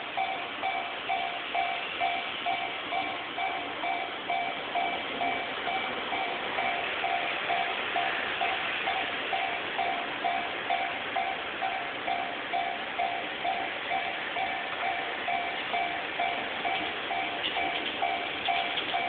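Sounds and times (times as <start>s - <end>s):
level crossing warning bell: 0.0s - 19.0s
steady rushing noise: 0.0s - 19.0s.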